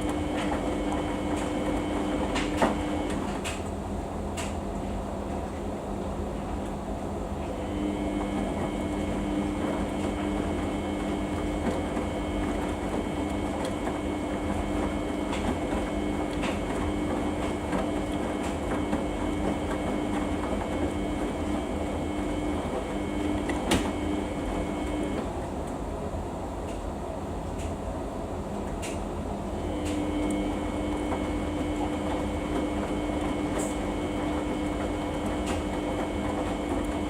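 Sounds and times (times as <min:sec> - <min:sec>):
washing machine motor hum: 0:00.0 - 0:37.0.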